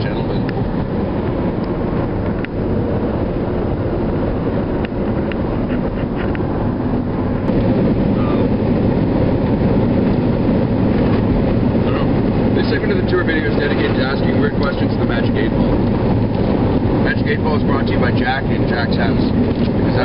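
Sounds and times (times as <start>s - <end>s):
road and engine rumble in vehicle: 0.0s - 20.0s.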